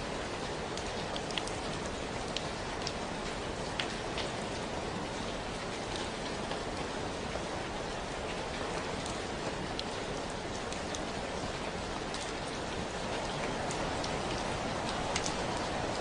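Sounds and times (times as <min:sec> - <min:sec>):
steady rain hiss: 0:00.0 - 0:16.0
raindrops ticking: 0:00.7 - 0:06.7, 0:08.2 - 0:16.0.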